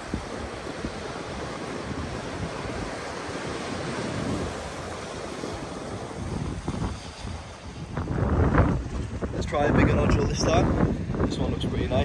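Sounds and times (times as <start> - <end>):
surf rushing: 0.0 - 12.0
wind buffeting microphone: 0.0 - 12.0.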